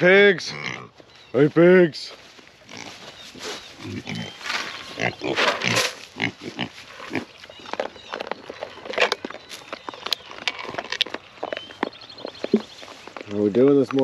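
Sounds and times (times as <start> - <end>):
pigs calling: 0.0 - 1.0, 2.6 - 14.0
pigs crunching feed: 0.5 - 1.2, 2.2 - 14.0.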